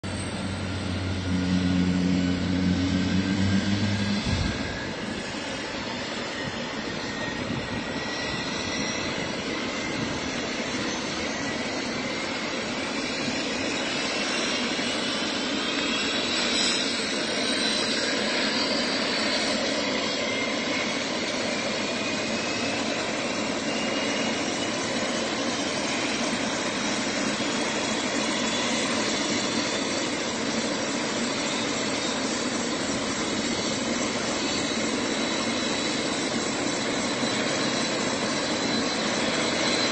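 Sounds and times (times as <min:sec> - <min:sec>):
helicopter engine and rotors: 0:00.0 - 0:39.9
turbine whine: 0:00.0 - 0:39.9.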